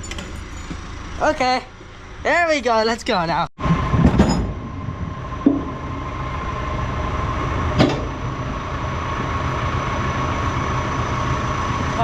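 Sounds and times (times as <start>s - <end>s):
trailer clunks: 0.0s - 2.0s, 3.6s - 12.0s
tractor engine running: 0.0s - 12.0s.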